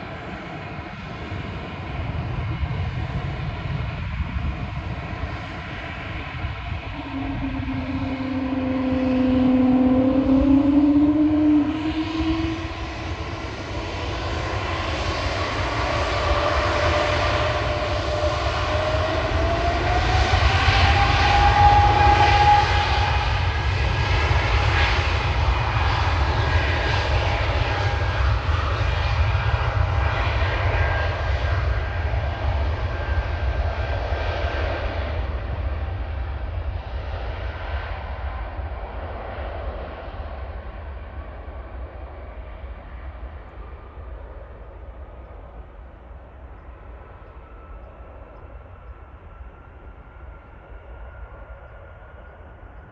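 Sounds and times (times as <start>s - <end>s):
jet engine low rumble: 0.0s - 52.9s
jet engine whine: 0.0s - 52.9s.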